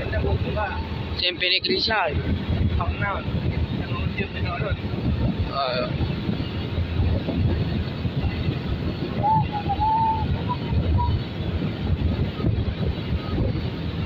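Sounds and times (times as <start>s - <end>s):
motorcycle engine drone: 0.0s - 14.0s
wind rush over microphone: 0.0s - 14.0s.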